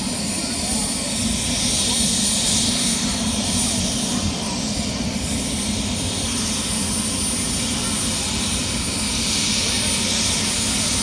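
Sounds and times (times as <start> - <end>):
helicopter rotor rumble: 0.0 - 11.0
turbine whine: 0.0 - 11.0.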